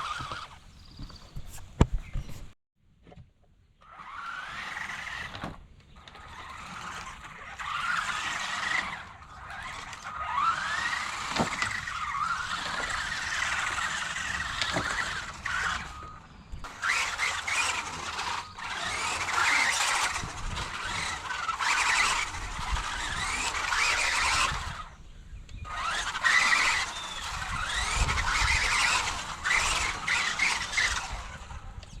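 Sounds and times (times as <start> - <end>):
rc truck motor whining: 0.0 - 2.5, 3.8 - 32.0.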